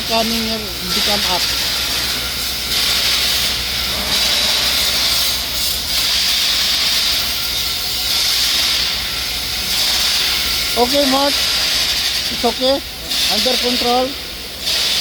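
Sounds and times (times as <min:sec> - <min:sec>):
loud steady hissing: 0:00.0 - 0:15.0.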